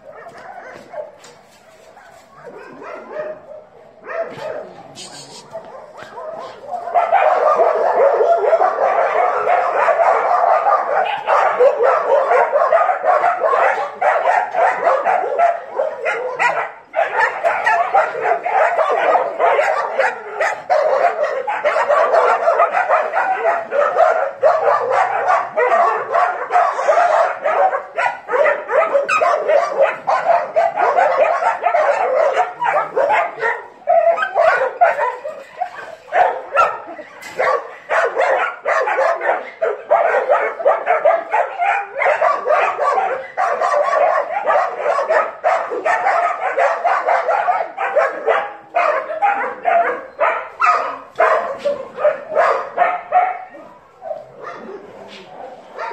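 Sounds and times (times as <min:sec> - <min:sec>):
dogs barking and yipping: 0:00.0 - 0:55.9.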